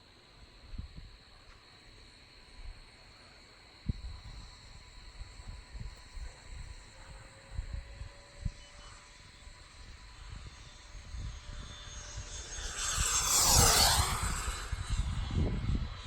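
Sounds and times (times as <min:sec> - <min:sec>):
model jet whine passing: 0:00.0 - 0:16.0.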